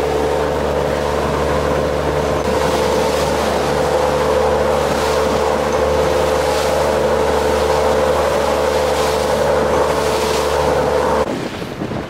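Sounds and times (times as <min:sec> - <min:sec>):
motorboat engine droning: 0:00.0 - 0:12.0
water rushing from wake: 0:00.0 - 0:12.0.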